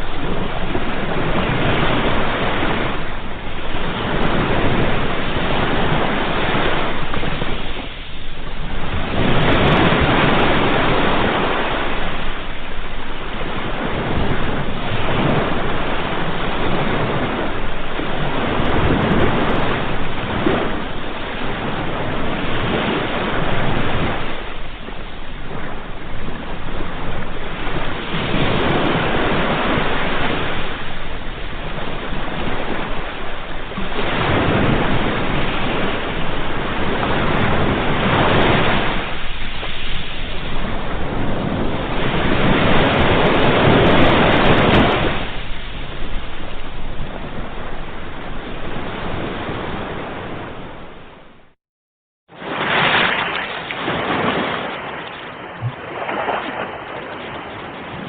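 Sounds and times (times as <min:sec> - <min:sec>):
sea waves breaking on shore: 0:00.0 - 0:51.6, 0:52.3 - 0:58.0.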